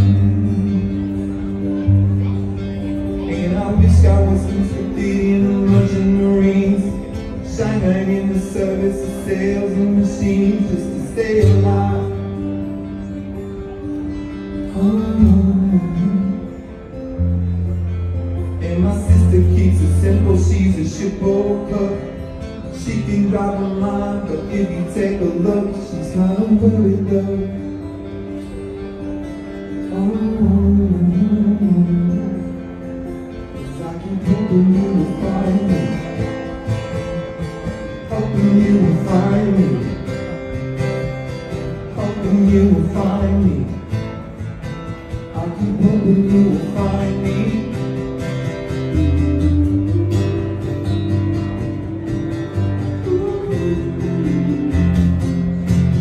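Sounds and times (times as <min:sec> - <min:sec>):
man singing: 0:00.0 - 0:13.1, 0:13.9 - 0:17.0, 0:18.4 - 0:28.3, 0:29.6 - 0:44.3, 0:45.2 - 0:56.0
acoustic guitar strummed and picked: 0:00.0 - 0:56.0.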